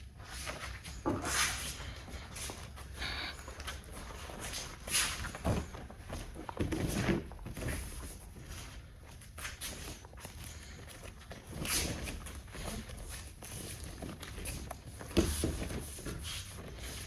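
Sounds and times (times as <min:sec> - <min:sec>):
bare feet shuffling on mats: 0:00.1 - 0:17.0.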